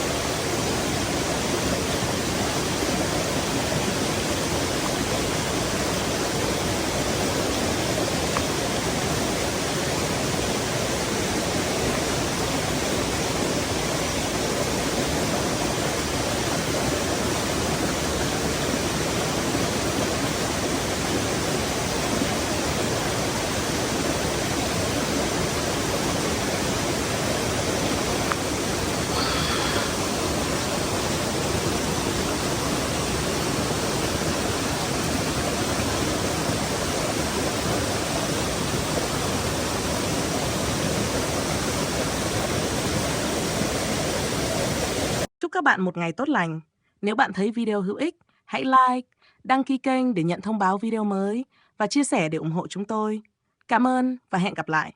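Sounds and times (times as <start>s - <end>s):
stream rushing over rocks: 0.0s - 45.3s.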